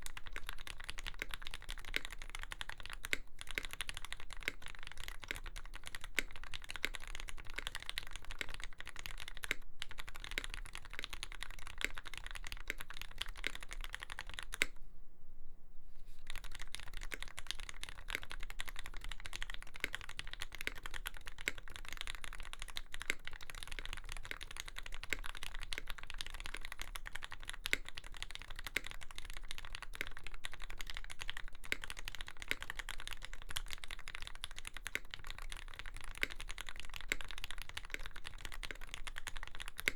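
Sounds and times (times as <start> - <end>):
mechanical keyboard typing: 0.0 - 14.8, 16.3 - 39.9.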